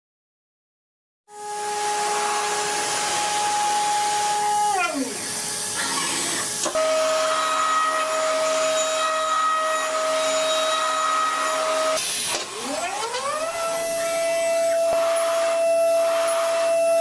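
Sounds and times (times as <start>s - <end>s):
electric motor whining: 1.3s - 17.0s.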